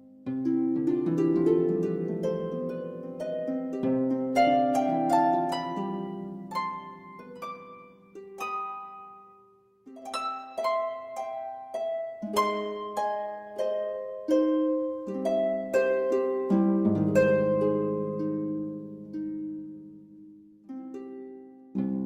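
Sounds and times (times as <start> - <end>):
plucked harp-like music: 0.0 - 22.0.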